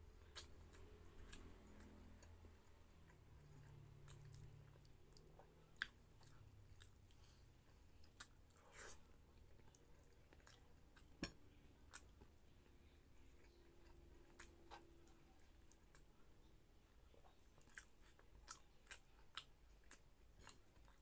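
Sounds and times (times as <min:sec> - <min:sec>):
man chewing food: 0:00.0 - 0:21.0.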